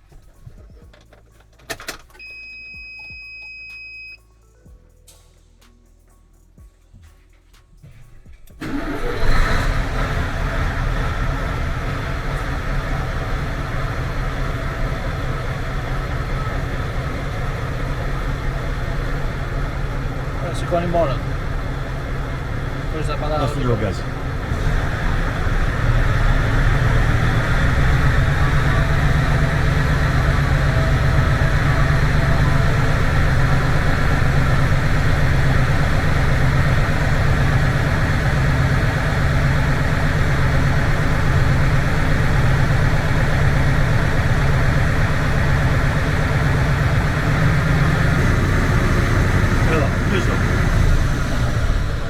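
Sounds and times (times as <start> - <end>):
diesel truck engine idling: 7.2 - 52.0.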